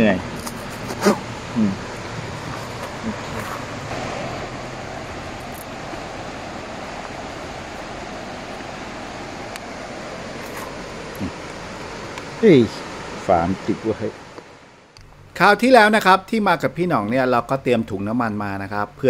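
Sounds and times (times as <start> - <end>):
steady rushing noise: 0.0 - 18.3.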